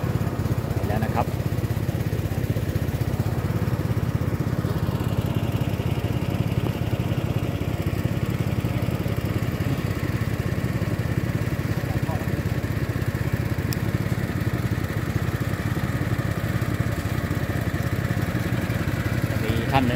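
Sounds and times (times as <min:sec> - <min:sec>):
small engine running: 0:00.0 - 0:19.9.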